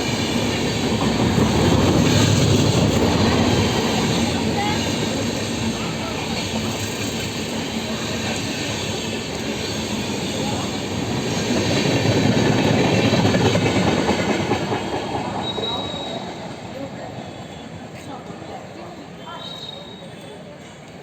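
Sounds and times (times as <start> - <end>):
train wheels rumbling and clattering: 0.0 - 18.6.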